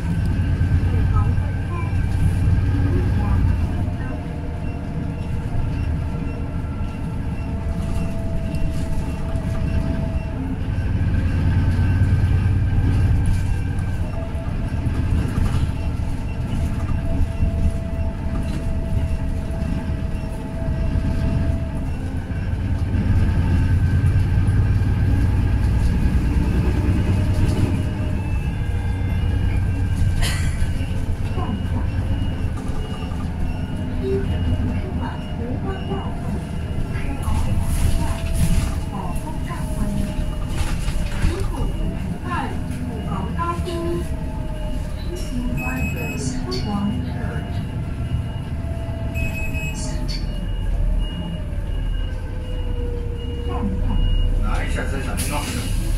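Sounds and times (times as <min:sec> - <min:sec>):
bus engine rumbling with whine: 0:00.0 - 0:55.9.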